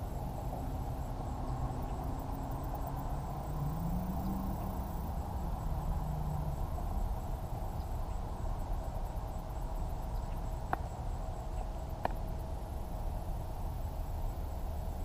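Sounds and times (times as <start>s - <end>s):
low outdoor rumble and hiss: 0.0s - 15.0s.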